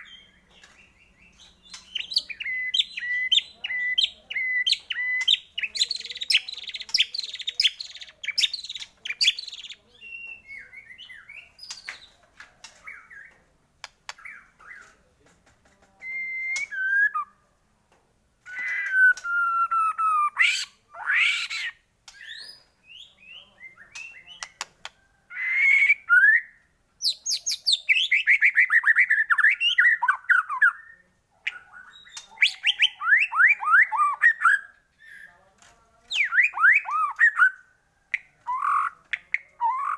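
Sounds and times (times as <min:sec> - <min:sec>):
songbird singing varied song: 0:00.0 - 0:14.9, 0:15.9 - 0:17.4, 0:18.4 - 0:35.4, 0:36.1 - 0:39.9.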